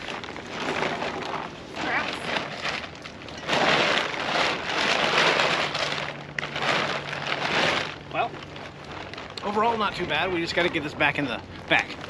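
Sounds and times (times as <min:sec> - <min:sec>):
tent fabric rustling and crinkling: 0:00.0 - 0:12.0.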